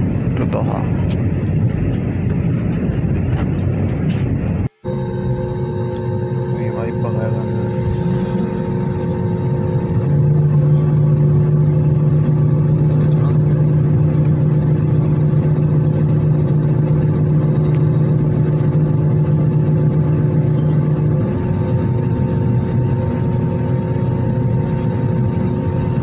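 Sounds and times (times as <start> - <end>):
airliner cabin engine drone: 0.0 - 26.0
deeper hum: 0.0 - 26.0.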